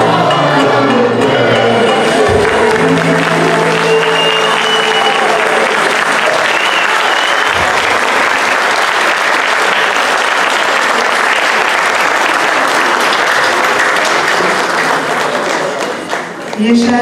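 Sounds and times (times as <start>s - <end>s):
audience applauding: 2.0s - 16.7s.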